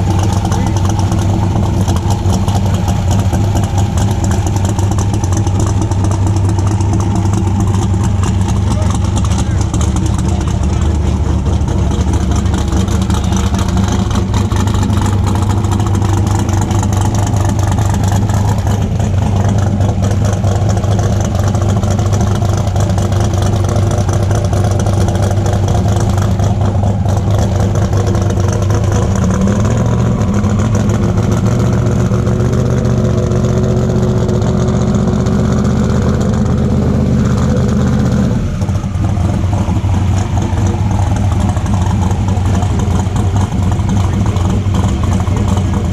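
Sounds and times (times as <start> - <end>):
race car engine idling loudly: 0.0 - 45.9.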